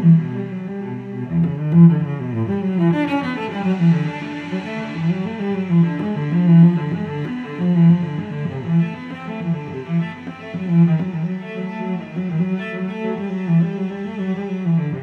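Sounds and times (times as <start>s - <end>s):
slow instrumental music: 0.0s - 15.0s.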